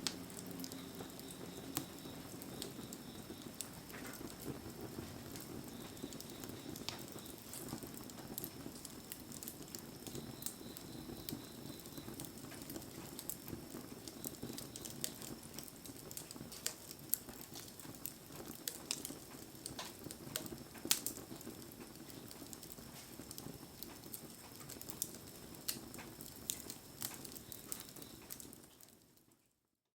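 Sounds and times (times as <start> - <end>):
campfire crackling and popping: 0.0 - 29.4
rain pattering: 0.0 - 29.4.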